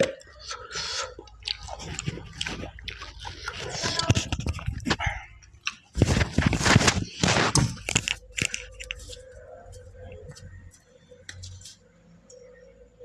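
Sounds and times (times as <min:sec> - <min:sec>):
crunching while eating: 0:00.0 - 0:11.8
faint steady hum: 0:00.0 - 0:13.0.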